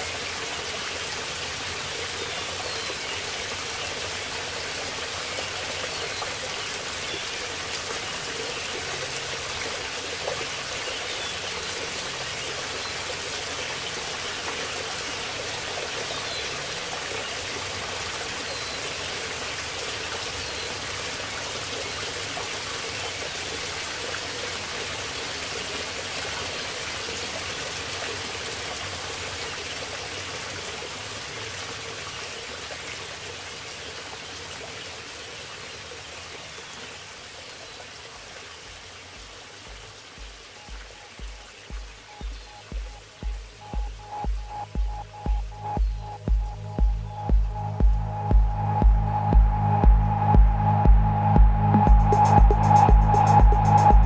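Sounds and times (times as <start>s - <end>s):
creek and waterfall rushing: 0.0s - 50.6s.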